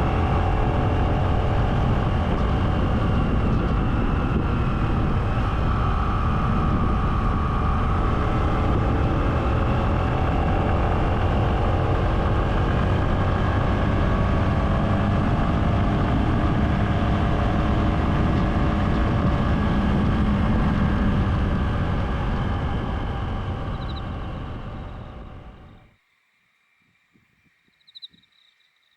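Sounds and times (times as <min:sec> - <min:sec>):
vehicle engine and road rumble: 0:00.0 - 0:26.0
faint engine tones: 0:00.0 - 0:28.9.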